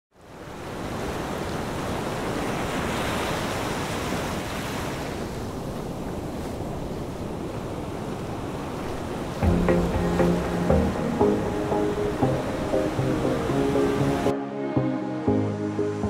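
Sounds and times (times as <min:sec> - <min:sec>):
ocean surf washing: 0:00.2 - 0:16.0.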